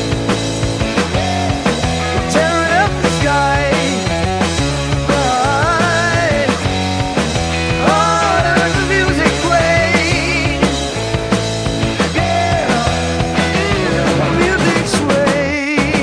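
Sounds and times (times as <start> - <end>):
vibrato electric guitar lead: 0.0 - 15.6
psychedelic rock music: 0.0 - 16.0.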